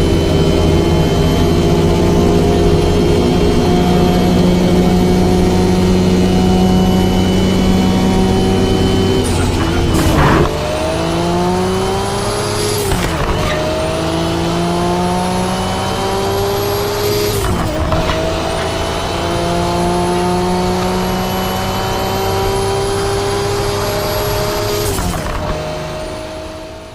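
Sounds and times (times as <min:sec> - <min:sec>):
car engine revving through gears: 0:00.0 - 0:26.9.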